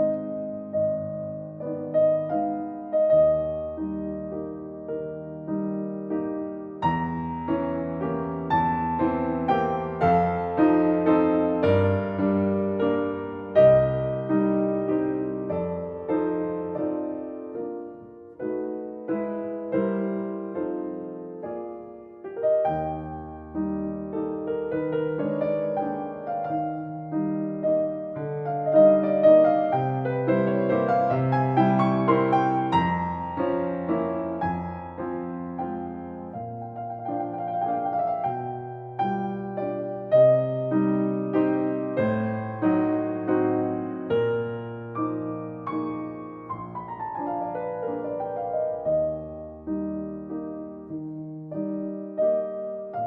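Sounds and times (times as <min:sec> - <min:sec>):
solo piano piece: 0:00.0 - 0:53.0.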